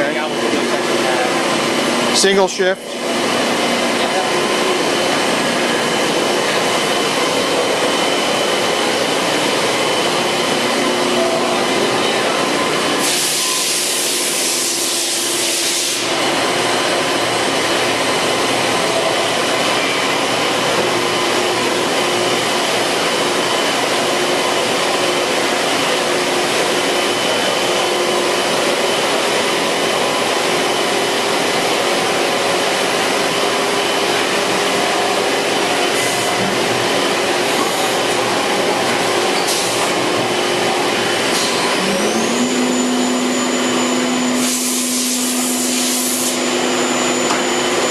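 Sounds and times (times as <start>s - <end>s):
spindle whine: 0.0s - 14.4s, 15.0s - 47.9s
machine hum: 0.0s - 47.9s.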